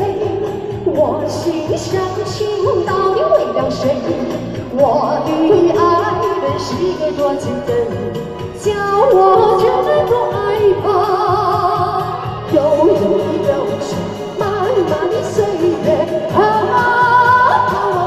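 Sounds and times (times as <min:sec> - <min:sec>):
karaoke backing track: 0:00.0 - 0:18.0
woman singing into a microphone: 0:00.0 - 0:18.0.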